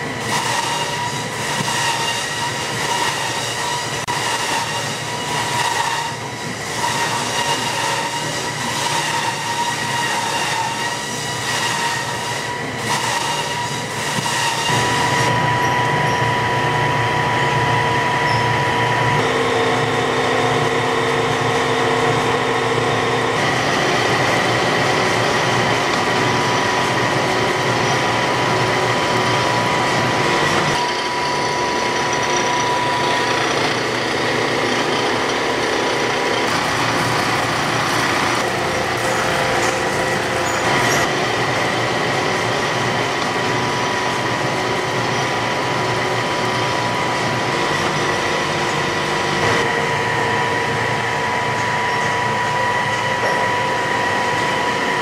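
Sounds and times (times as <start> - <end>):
machinery humming and whining: 0.0 - 55.0.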